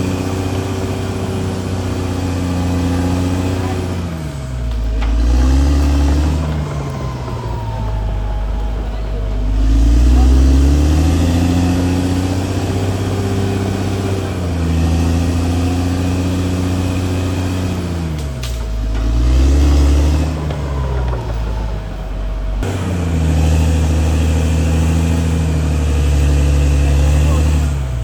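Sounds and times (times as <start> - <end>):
bulldozer diesel engine revving: 0.0 - 28.0.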